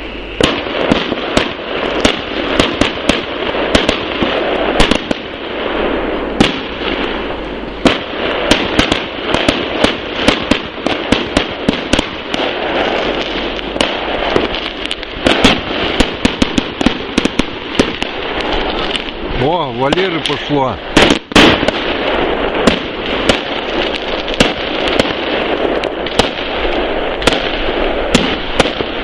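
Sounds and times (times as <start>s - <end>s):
fireworks bangs and pops: 0.0s - 29.0s
fireworks crackle: 0.0s - 29.0s.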